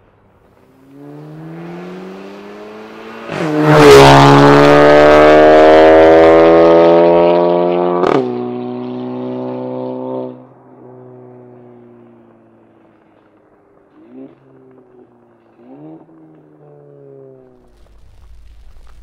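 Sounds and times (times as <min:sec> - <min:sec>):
car engine accelerating hard: 0:00.5 - 0:19.0.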